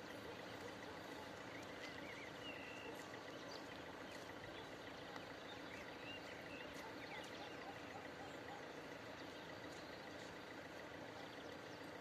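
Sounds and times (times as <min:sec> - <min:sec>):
faint outdoor ambience: 0:00.0 - 0:12.0
bird chirps: 0:00.4 - 0:12.0.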